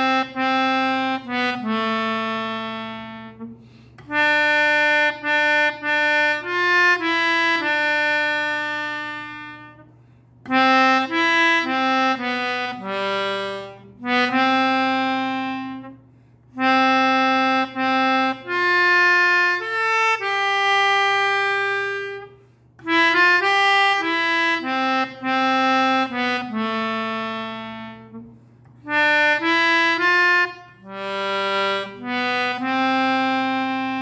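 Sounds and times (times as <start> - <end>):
reed wind instrument melody: 0.0 - 9.9, 10.5 - 34.0
faint steady hum: 0.0 - 34.0.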